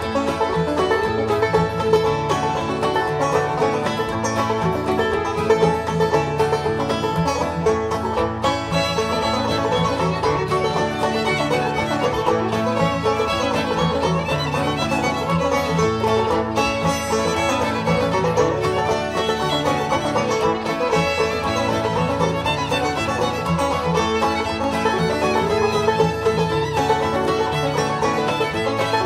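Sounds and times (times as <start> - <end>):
bluegrass tune with fiddle and banjo: 0.0 - 29.0.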